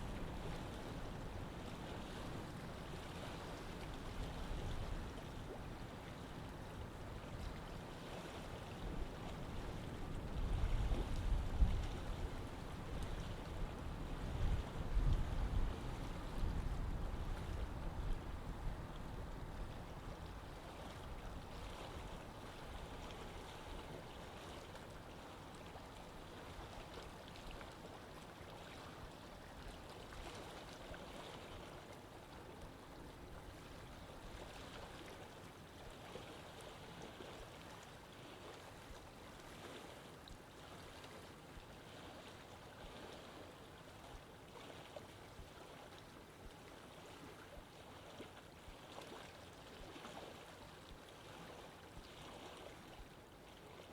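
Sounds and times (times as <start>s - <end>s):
water flowing in a canal: 0.0s - 53.9s.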